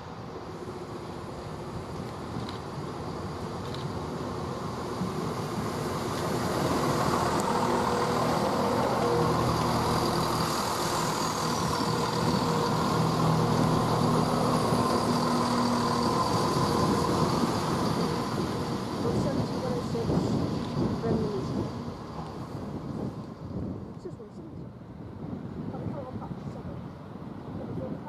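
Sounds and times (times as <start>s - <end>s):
rushing noise: 0.0s - 23.8s
train mechanical hum: 0.0s - 24.2s.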